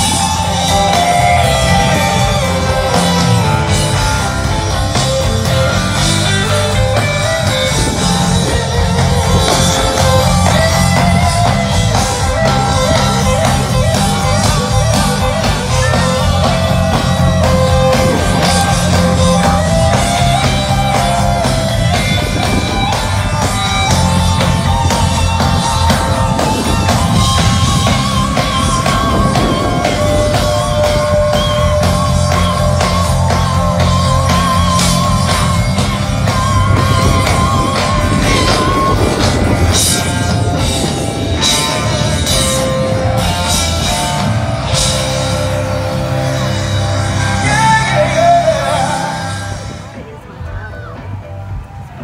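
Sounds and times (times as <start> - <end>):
drum kit steady beat: 0.0 - 50.0
electric guitars: 0.0 - 52.0
live rock band: 0.0 - 52.0.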